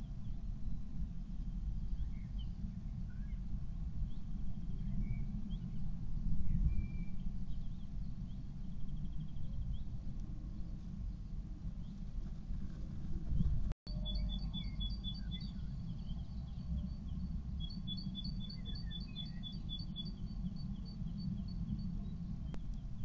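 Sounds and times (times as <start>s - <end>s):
steady low rumble: 0.0s - 23.0s
songbird singing: 1.7s - 12.1s, 13.3s - 23.0s.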